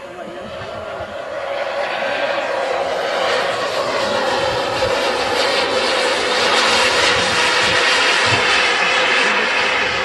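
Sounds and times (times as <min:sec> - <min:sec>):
model jet turbine rushing: 0:00.0 - 0:10.0.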